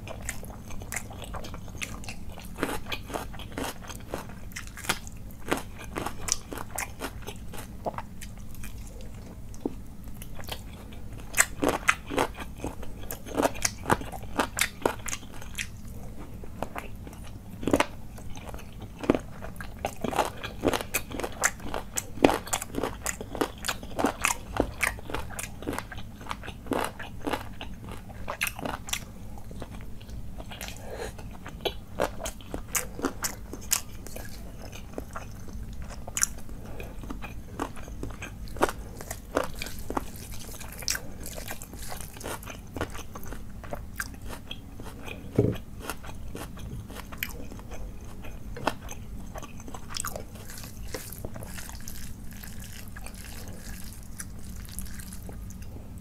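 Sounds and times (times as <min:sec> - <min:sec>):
person chewing with crunchy clicks: 0:00.0 - 0:56.0.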